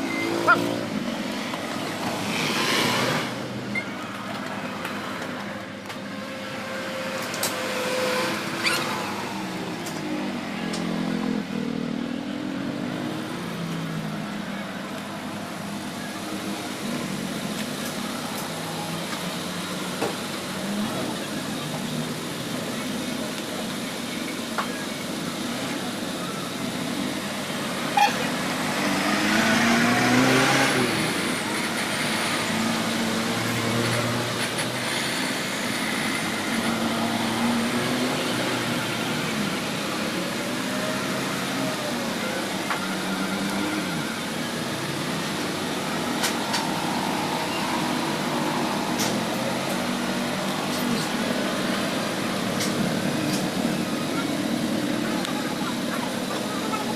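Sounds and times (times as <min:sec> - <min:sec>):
road traffic noise: 0:00.0 - 0:56.9.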